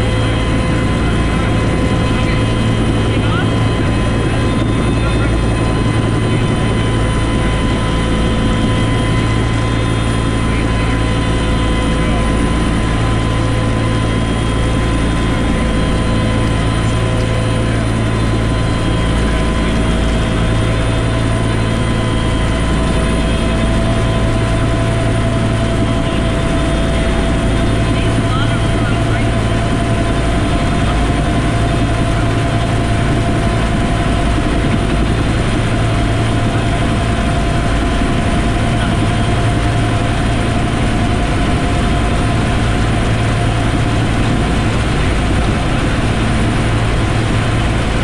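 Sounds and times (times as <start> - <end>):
helicopter low drone: 0.0 - 48.0.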